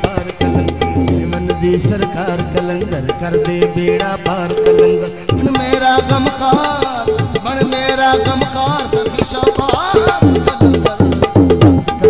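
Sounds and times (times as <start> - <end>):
harmonium melody: 0.0 - 12.0
tabla rhythm: 0.0 - 12.0.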